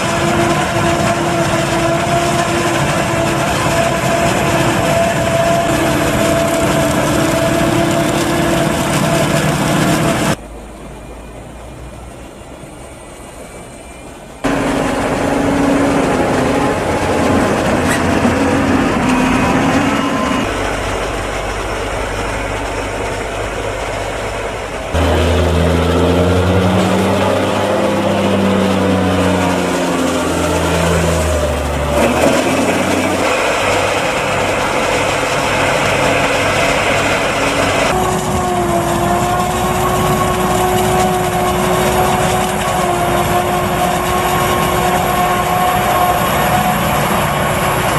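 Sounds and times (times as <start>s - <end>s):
diesel engines of farm machinery: 0.0s - 47.9s.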